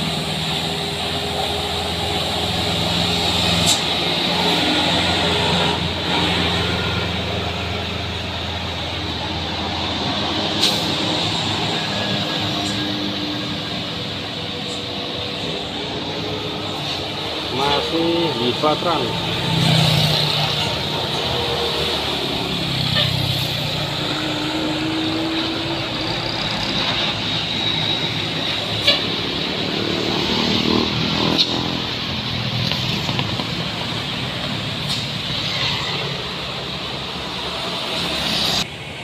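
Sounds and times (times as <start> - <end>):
heavy traffic passing: 0.0 - 39.0.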